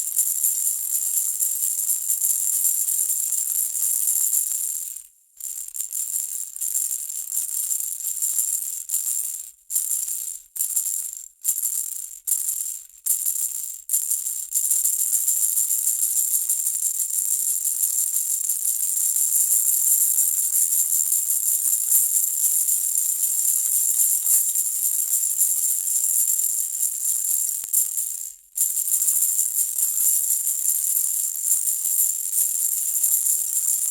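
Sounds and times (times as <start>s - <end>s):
baby rattle toy shaking: 0.0s - 33.9s.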